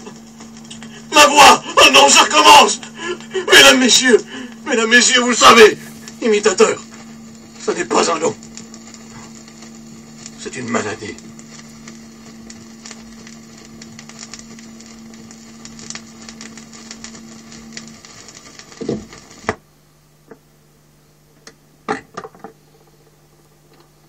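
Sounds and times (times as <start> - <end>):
faint hum: 0.0 - 24.0
vinyl record crackle: 0.0 - 24.0.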